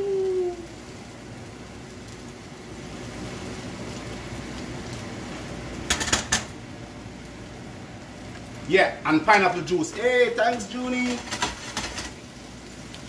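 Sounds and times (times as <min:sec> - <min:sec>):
steady stove hiss: 0:00.0 - 0:13.0.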